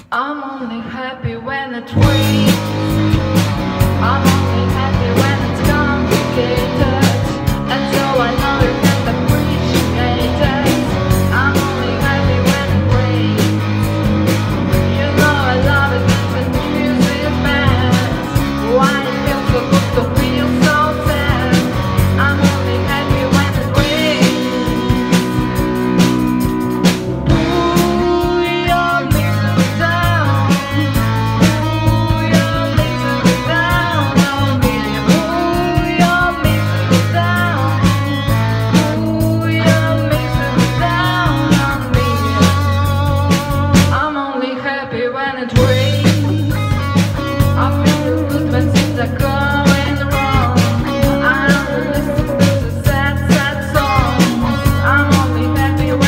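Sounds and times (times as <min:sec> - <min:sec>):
drums: 0:00.0 - 0:56.0
woman singing rock song: 0:00.0 - 0:56.0
electric guitar: 0:00.8 - 0:56.0.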